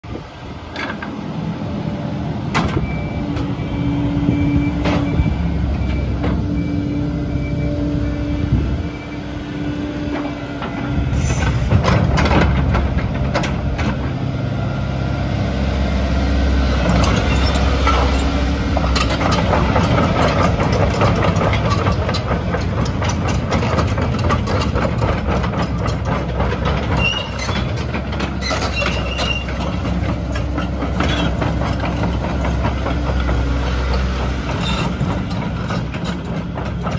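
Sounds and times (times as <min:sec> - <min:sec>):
excavator diesel engine: 0:00.0 - 0:36.9.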